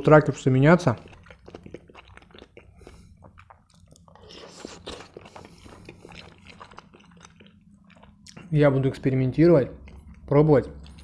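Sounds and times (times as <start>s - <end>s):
chewing with wet mouth clicks: 0.3s - 11.0s.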